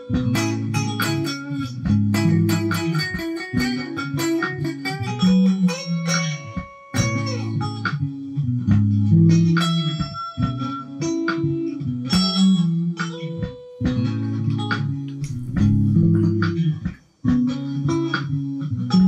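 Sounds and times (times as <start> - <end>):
electric guitar in soul style: 0.0 - 19.0.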